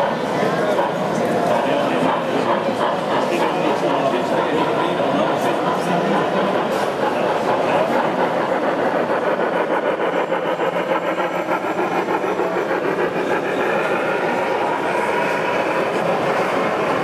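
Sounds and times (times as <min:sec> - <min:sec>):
model train wheels rumbling on track: 0:00.0 - 0:17.0.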